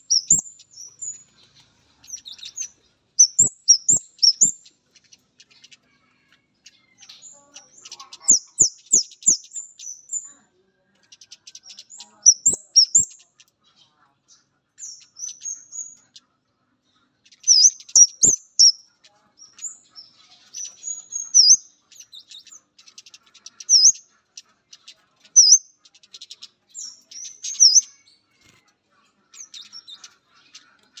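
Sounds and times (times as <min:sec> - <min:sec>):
bird high-pitched calls: 0:00.0 - 0:10.4, 0:11.0 - 0:13.9, 0:14.8 - 0:16.2, 0:17.2 - 0:31.0.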